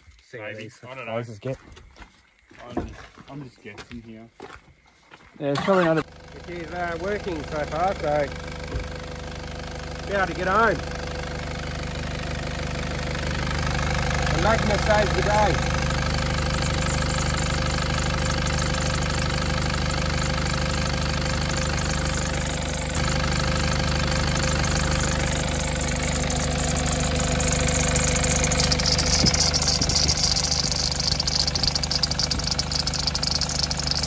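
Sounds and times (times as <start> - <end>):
engine idling: 5.6 - 34.0.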